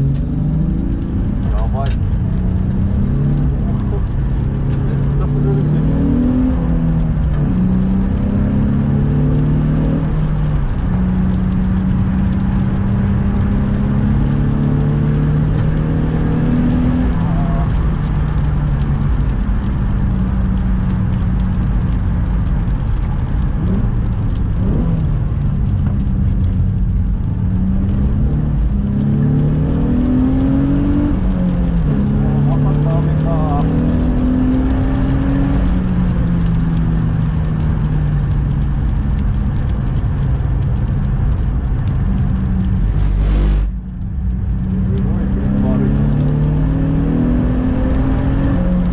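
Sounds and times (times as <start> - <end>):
car engine revving and shifting: 0.0 - 48.9.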